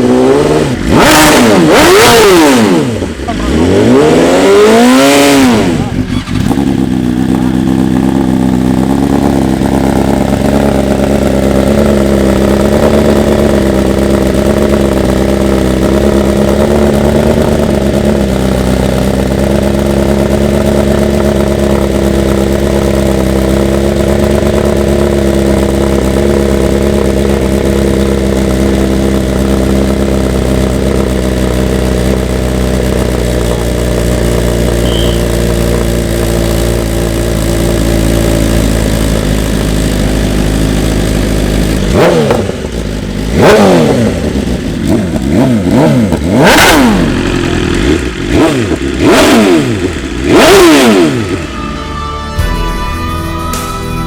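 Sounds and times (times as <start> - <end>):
motorcycle engine idling: 4.7 - 51.8.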